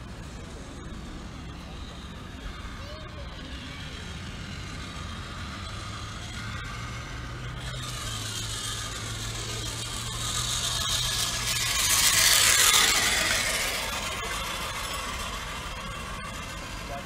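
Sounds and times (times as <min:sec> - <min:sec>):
road traffic: 0:00.0 - 0:17.0
vehicle passing: 0:00.0 - 0:17.0.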